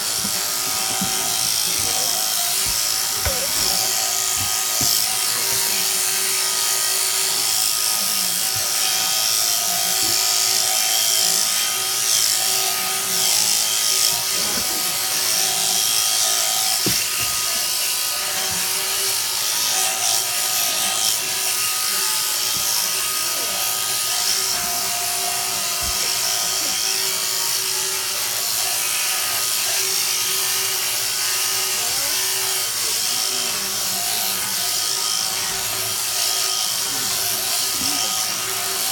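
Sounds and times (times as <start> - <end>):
electric shears buzzing: 0.0 - 38.9.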